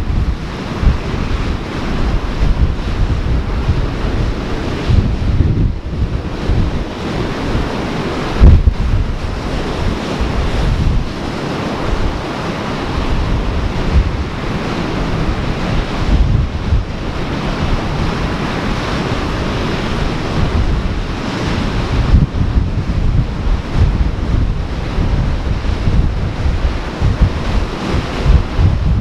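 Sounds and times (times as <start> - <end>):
ocean surf washing: 0.0 - 29.0
wind buffeting the microphone: 0.0 - 29.0.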